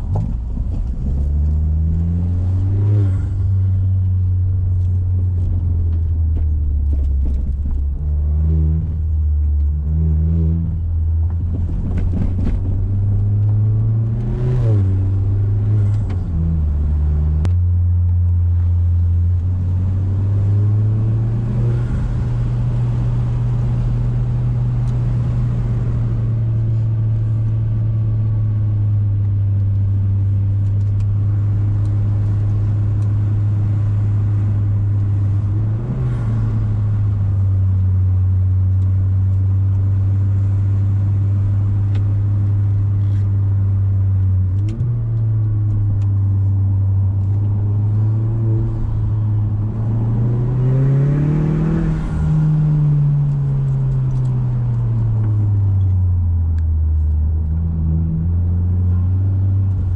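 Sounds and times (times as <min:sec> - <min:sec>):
car exhaust drone: 0:00.0 - 0:59.9.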